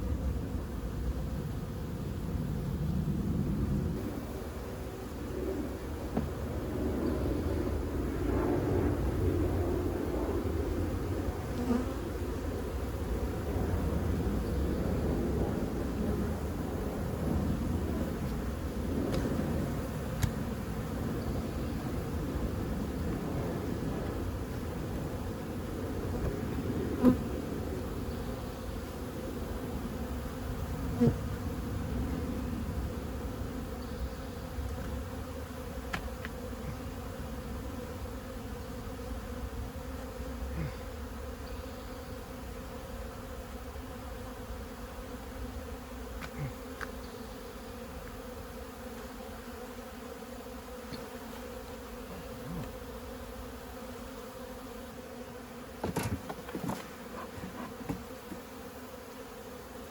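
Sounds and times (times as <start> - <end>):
honey bees buzzing: 0.0 - 59.9.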